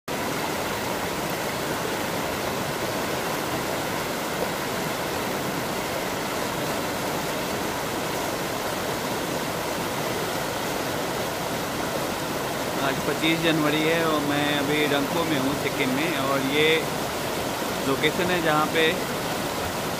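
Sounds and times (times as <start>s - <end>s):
river rapids rushing over boulders: 0.1s - 19.9s.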